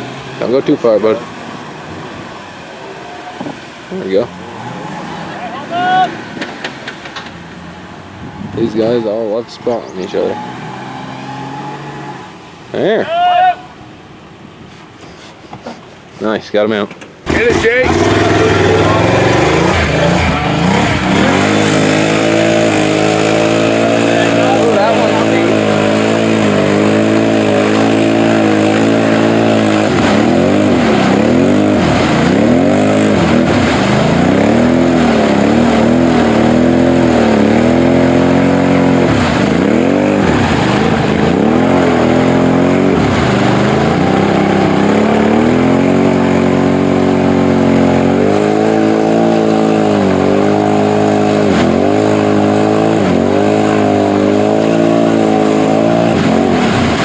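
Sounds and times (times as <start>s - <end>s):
off-road vehicle engine revving: 0.0s - 13.0s, 17.2s - 57.0s.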